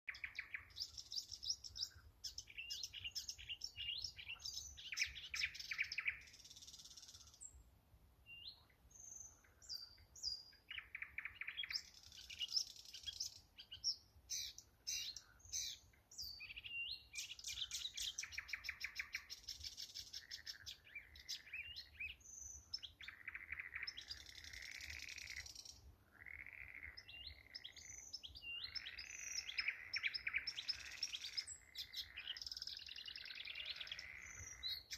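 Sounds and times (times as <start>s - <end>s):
nightingales singing: 0.1s - 7.6s, 8.4s - 34.9s.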